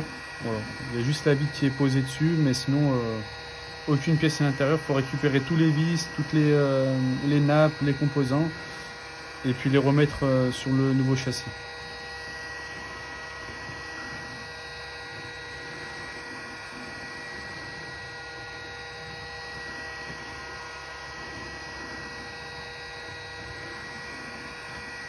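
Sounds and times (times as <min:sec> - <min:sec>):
fan whine: 0:00.0 - 0:25.0
heat gun air rush: 0:00.0 - 0:25.0.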